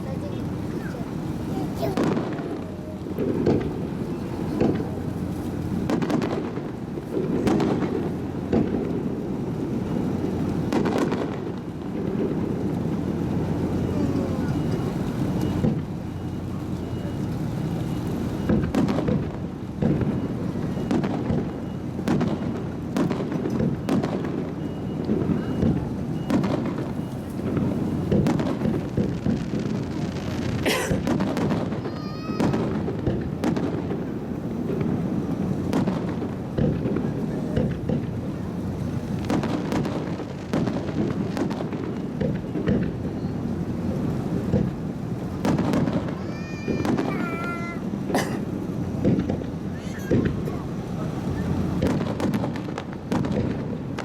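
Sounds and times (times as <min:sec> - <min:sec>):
continuous rumble: 0:00.0 - 0:54.0
firework shells bursting: 0:00.4 - 0:16.5, 0:17.3 - 0:54.0
warbling firework whistle: 0:01.7 - 0:37.0, 0:37.6 - 0:47.9, 0:49.0 - 0:54.0.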